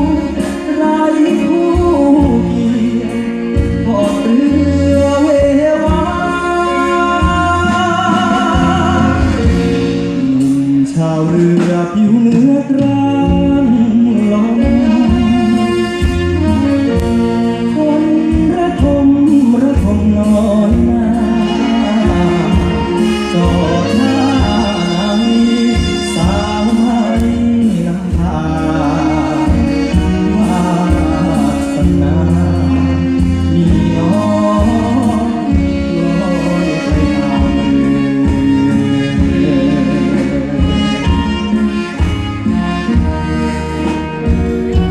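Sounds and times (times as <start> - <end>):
live band playing: 0.0 - 44.9
person singing: 0.0 - 44.9.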